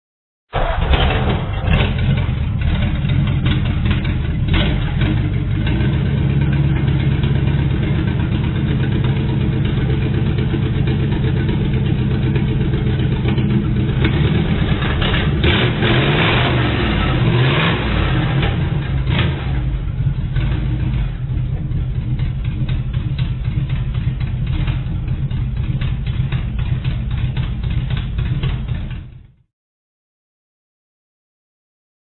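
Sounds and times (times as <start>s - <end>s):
car engine revving: 0.6s - 29.3s.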